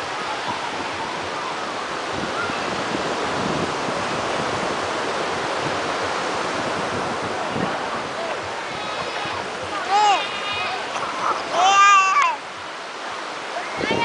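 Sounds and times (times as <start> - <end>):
surf washing on beach: 0.0 - 14.0
wind: 0.0 - 14.0.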